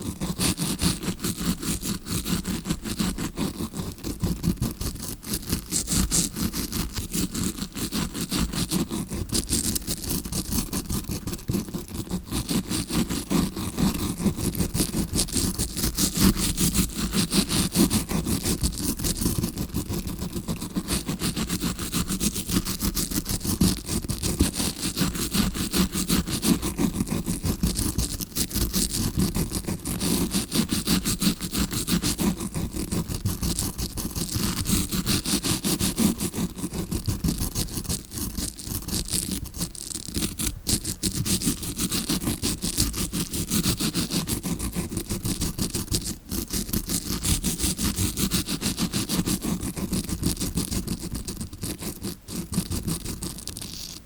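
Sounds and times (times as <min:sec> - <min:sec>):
scrubbing brush scratching microphone: 0:00.0 - 0:54.0.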